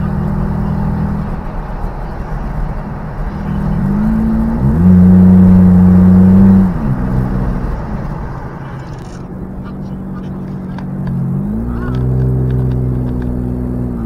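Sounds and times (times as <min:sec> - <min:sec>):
engine revving: 0:00.0 - 0:14.0
road and tyre noise: 0:00.0 - 0:14.0.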